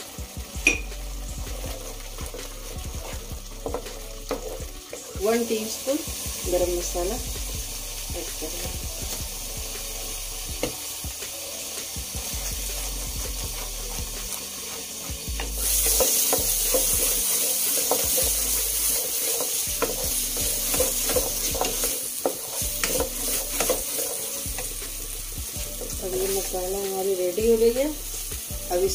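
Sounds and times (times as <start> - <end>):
masala sizzling in a pan: 0.0 - 28.9
spatula stirring and scraping: 1.2 - 10.8, 11.4 - 28.8.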